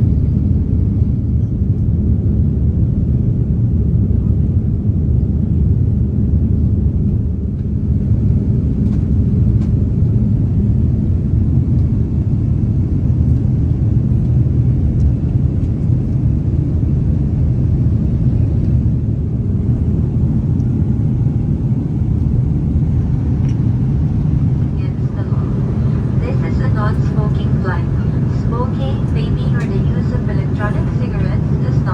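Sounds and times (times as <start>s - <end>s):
airliner cabin rumble: 0.0s - 31.9s.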